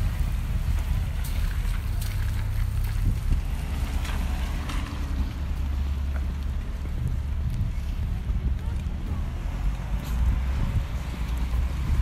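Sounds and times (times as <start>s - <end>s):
city street ambience: 0.0s - 12.0s
wind buffeting microphone: 0.0s - 12.0s.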